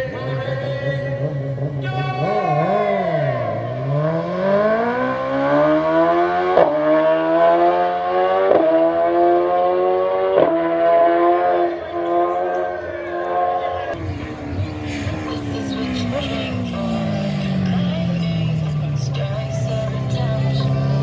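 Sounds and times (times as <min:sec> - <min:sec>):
engine revving and accelerating: 0:00.0 - 0:21.0.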